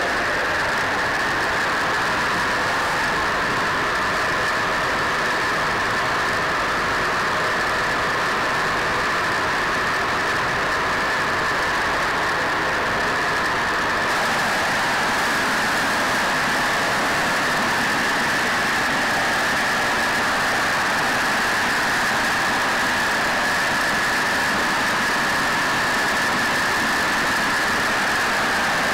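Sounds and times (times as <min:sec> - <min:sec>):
aircraft engines droning: 0:00.0 - 0:28.9.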